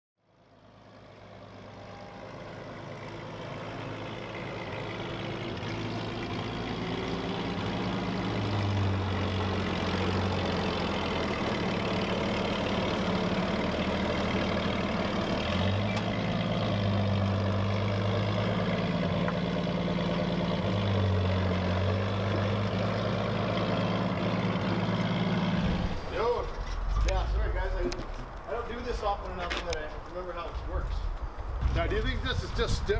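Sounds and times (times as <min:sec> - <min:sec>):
forklift engine revving: 0:01.2 - 0:28.3.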